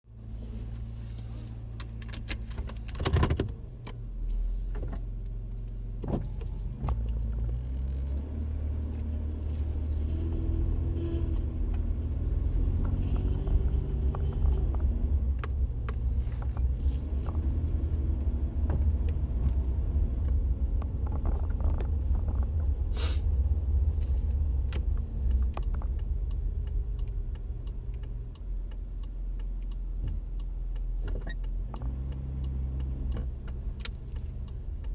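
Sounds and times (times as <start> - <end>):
vehicle steering hum and rumble: 0.0 - 34.9.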